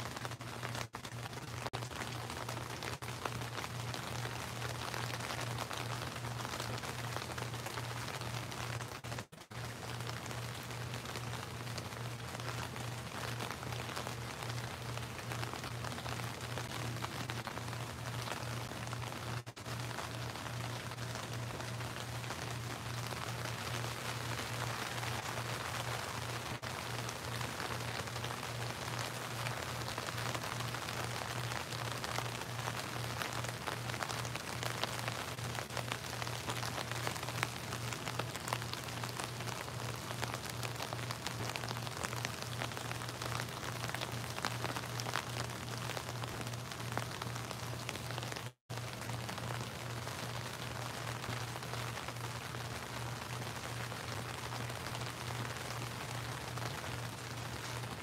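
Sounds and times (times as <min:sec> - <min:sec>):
rain pouring: 0:00.0 - 0:58.0.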